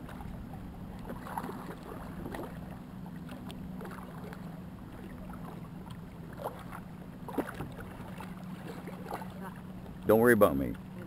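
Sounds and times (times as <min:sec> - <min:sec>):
paddle splashes: 0:00.0 - 0:11.0
steady low hum: 0:00.0 - 0:11.0
water lapping around kayaks: 0:00.0 - 0:11.0.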